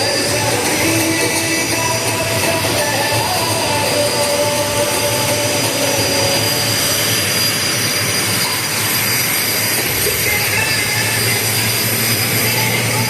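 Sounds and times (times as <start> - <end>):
aircraft turbine engines running: 0.0 - 13.0.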